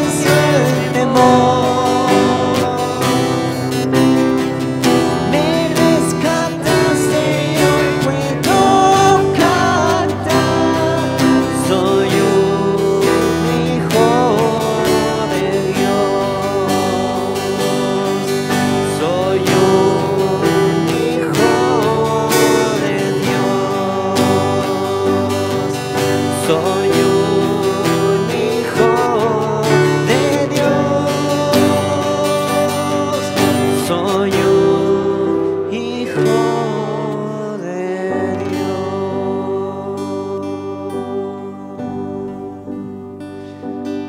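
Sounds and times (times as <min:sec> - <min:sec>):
person singing: 0:00.0 - 0:44.0
strummed acoustic guitar: 0:00.0 - 0:44.0.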